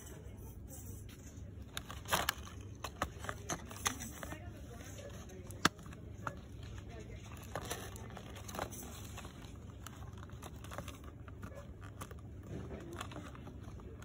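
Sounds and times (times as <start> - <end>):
handling clicks and rustles: 1.3 - 14.0.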